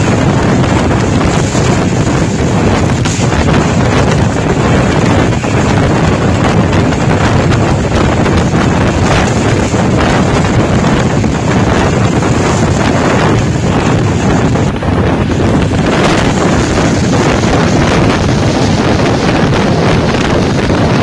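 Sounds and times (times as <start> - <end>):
train running rumble: 0.0 - 21.0
wind buffeting microphone: 0.0 - 21.0.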